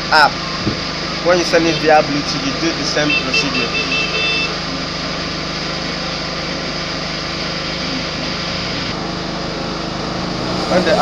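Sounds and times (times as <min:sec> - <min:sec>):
small engine droning: 0:00.0 - 0:11.0.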